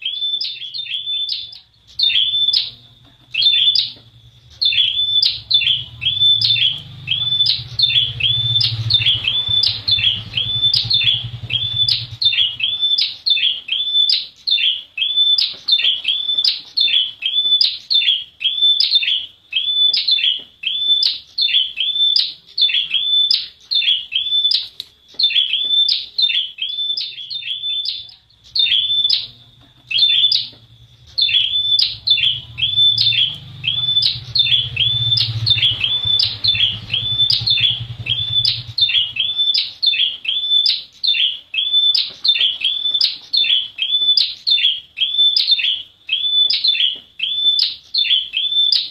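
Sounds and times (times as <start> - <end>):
bird high chirps: 0.0 - 48.9.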